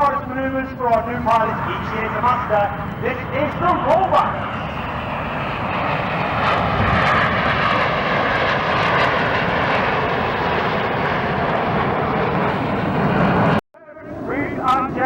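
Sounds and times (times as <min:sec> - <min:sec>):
jet roar: 0:00.0 - 0:15.0.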